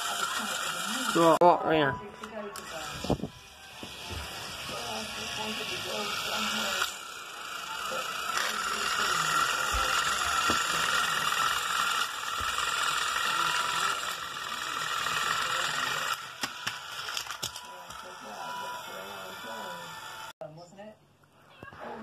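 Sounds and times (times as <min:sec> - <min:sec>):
toy train motor whirring: 0:00.0 - 0:01.4, 0:02.2 - 0:20.3.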